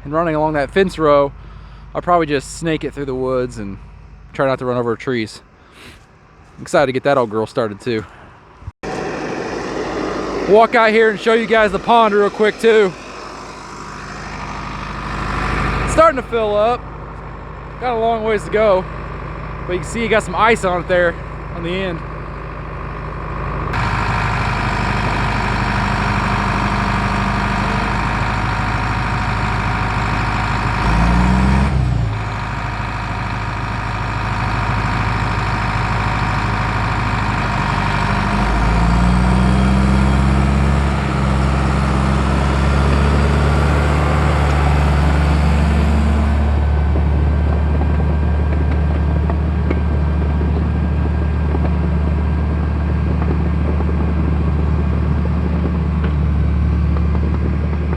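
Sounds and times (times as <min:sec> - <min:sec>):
diesel engine revving: 0:00.0 - 0:57.9.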